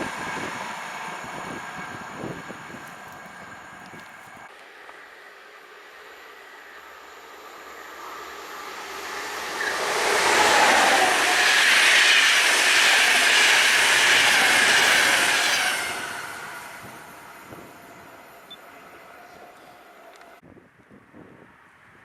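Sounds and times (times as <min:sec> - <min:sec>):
train passing at speed: 0:00.0 - 0:20.4.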